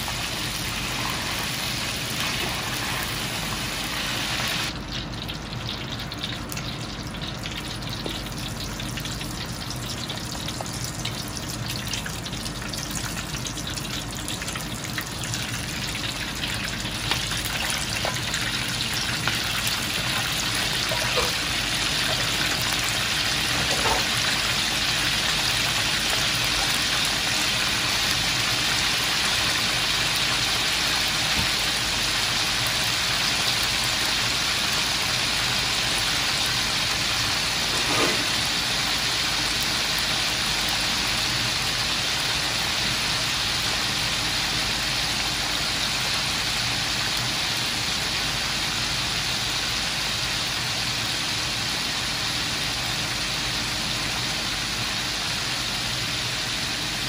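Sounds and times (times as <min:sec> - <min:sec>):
oil sizzling in a wok: 0:00.0 - 0:57.0.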